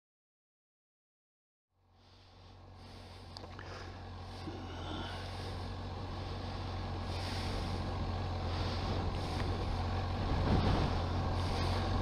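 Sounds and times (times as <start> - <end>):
motorcycle engine idling: 1.8 - 12.0.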